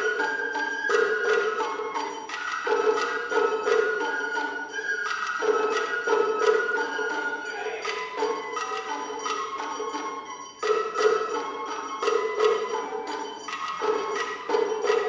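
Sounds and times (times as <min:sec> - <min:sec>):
bamboo flute melody: 0:00.0 - 0:15.0
small drums striking: 0:00.0 - 0:15.0.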